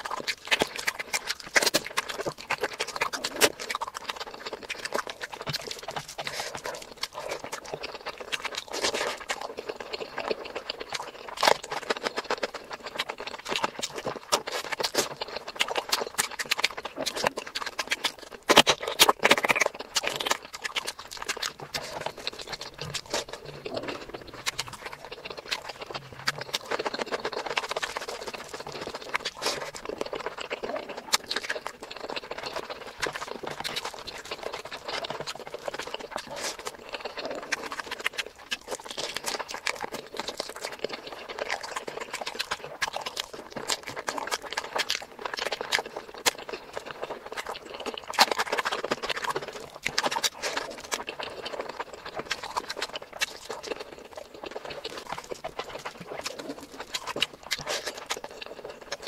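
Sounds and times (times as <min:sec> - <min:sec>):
wet chewing and lip smacking: 0:00.0 - 0:59.0.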